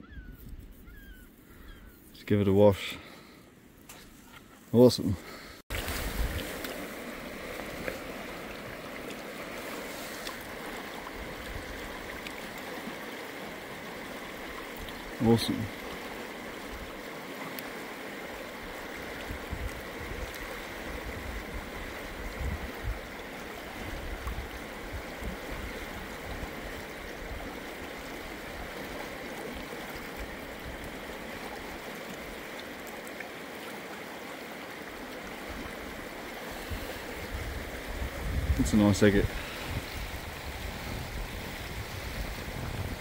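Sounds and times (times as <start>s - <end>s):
river water flowing over stones: 5.7s - 43.0s.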